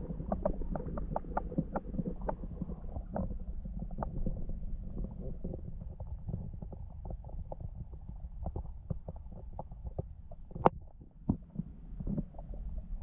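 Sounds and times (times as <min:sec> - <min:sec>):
muffled underwater rumble: 0:00.0 - 0:13.0
small clicks and ticks: 0:00.0 - 0:13.0.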